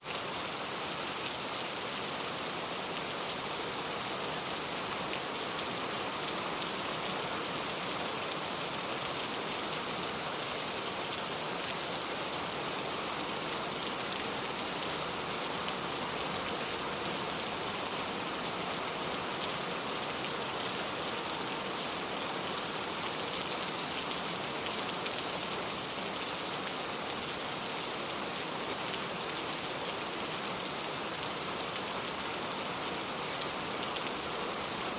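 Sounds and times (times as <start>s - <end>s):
heavy pouring rain: 0.0s - 34.9s.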